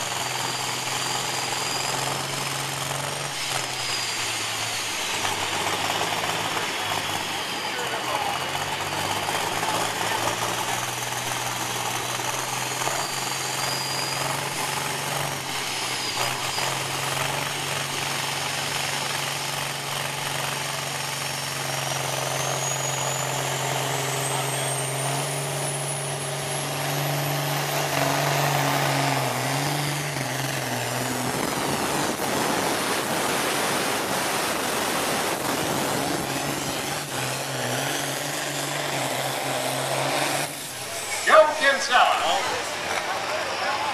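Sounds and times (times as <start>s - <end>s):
engine running hard under load: 0.0s - 43.9s.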